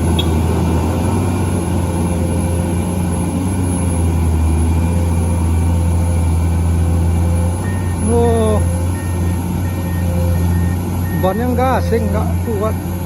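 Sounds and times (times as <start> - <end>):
large vehicle engine running: 0.0 - 13.0.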